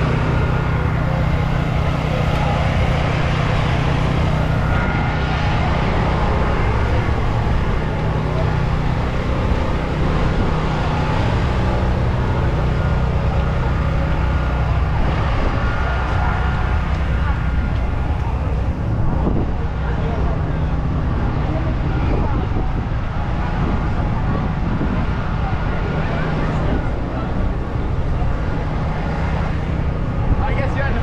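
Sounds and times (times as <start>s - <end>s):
car engines idling: 0.0s - 31.0s
faint voices: 0.0s - 31.0s.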